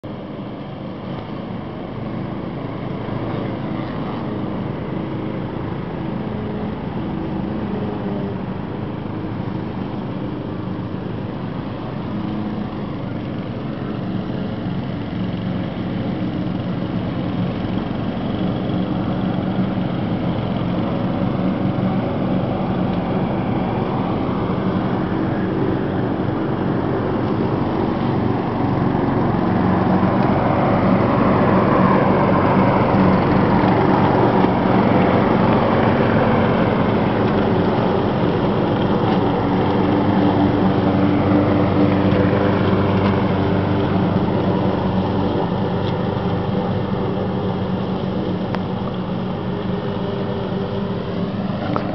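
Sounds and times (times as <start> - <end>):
lawn mowers running: 0.0 - 51.9.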